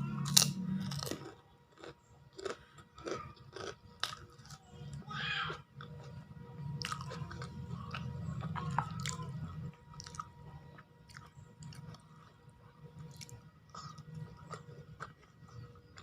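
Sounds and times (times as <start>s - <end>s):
person chewing food: 0.2s - 16.0s.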